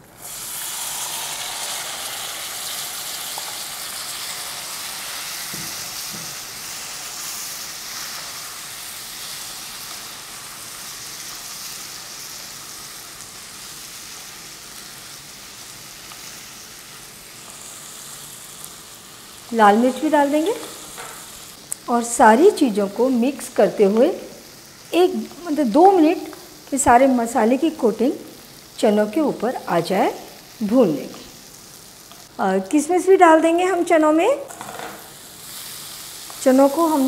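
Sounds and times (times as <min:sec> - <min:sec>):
chickpeas sizzling in hot fat: 0:00.0 - 0:37.0.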